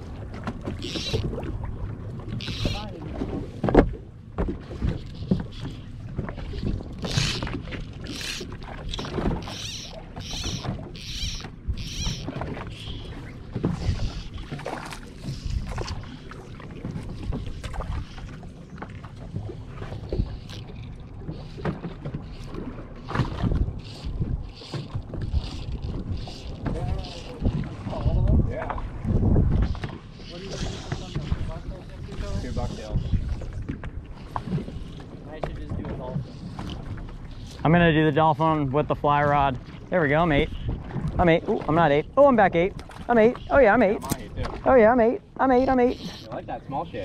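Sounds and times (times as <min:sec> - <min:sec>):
knocks and clatter on boat: 0:00.0 - 0:47.0
water sloshing and splashing: 0:00.0 - 0:47.0.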